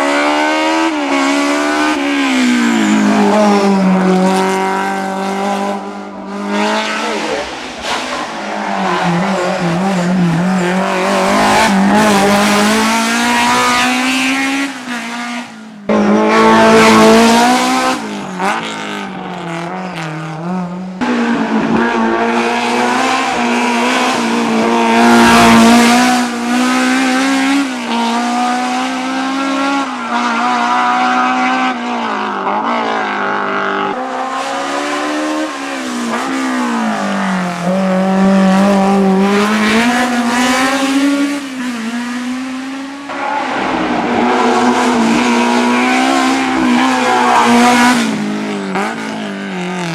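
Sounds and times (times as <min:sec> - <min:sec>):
race car engine revving: 0:00.0 - 0:49.9.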